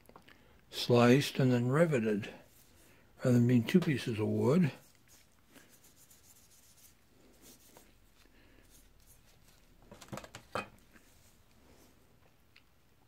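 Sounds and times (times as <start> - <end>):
faint rubbing and scraping: 0.9 - 12.1.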